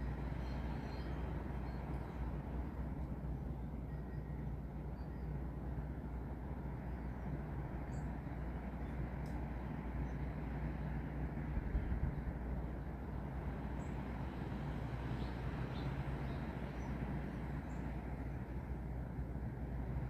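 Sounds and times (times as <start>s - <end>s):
wind through trees: 0.0s - 20.0s.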